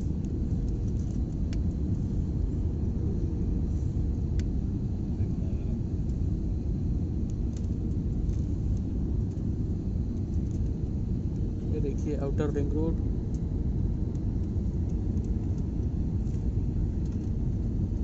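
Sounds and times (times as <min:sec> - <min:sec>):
airliner cabin engine rumble: 0:00.0 - 0:18.0
faint steady hum: 0:00.0 - 0:18.0.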